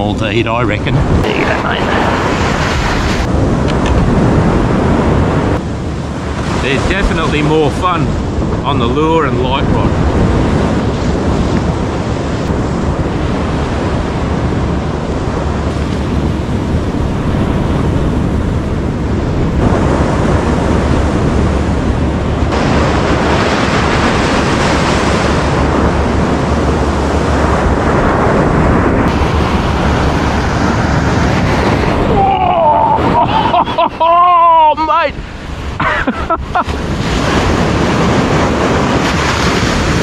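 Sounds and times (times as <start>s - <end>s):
ocean surf breaking: 0.0s - 40.0s
wind buffeting microphone: 0.0s - 40.0s.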